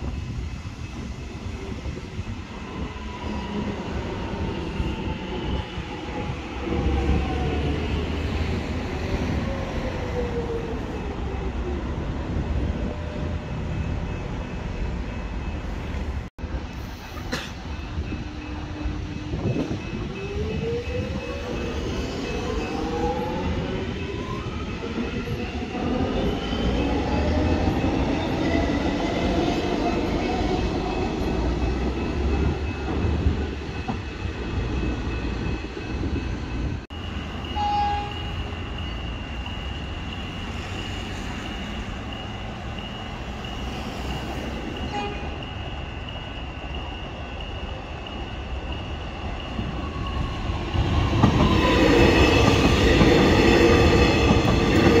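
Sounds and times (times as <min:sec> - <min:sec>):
heavy rail rumble: 0:00.0 - 0:55.0.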